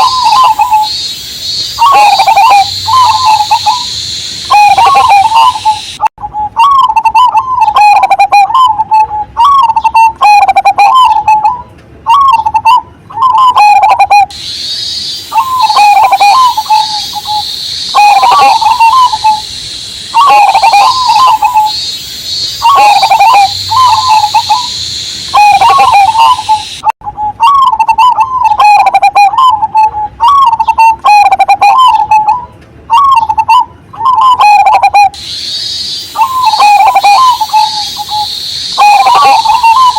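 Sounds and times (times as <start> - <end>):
dove cooing: 0.0 - 19.5, 20.1 - 39.9
cicada drone: 0.0 - 39.9.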